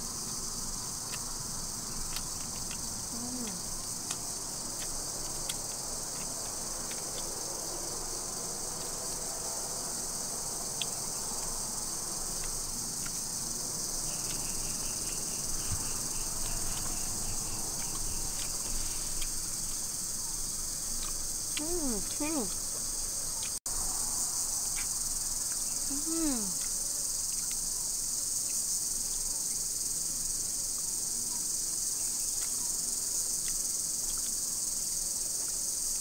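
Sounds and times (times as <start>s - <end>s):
insects shrilling: 0.0s - 36.0s.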